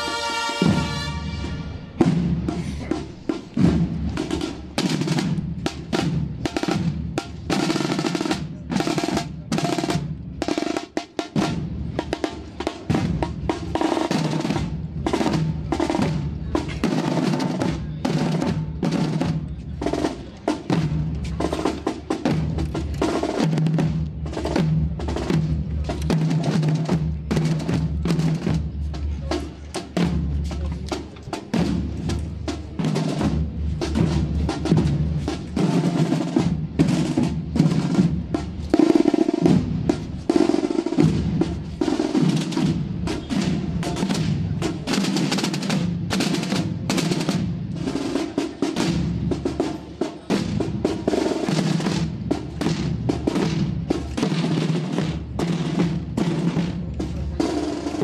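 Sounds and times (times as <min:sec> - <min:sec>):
snare drum rolls: 0:00.0 - 0:58.0.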